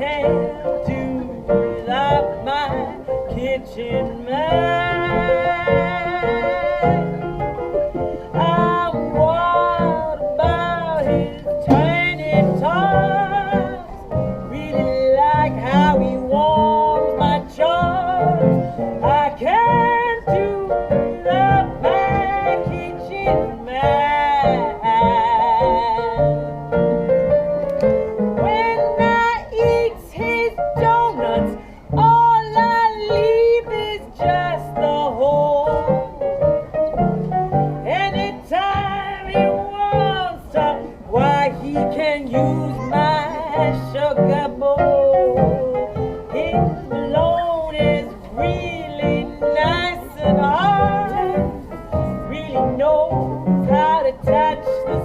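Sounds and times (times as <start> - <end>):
piano: 0.0 - 55.0
woman singing blues: 0.0 - 55.0.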